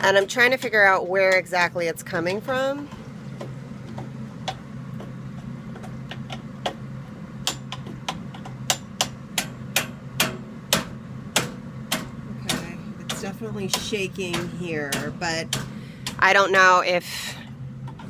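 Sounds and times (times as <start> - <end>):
furnace clicking: 0.0 - 1.9, 2.8 - 16.8
steady low hum: 0.0 - 18.0.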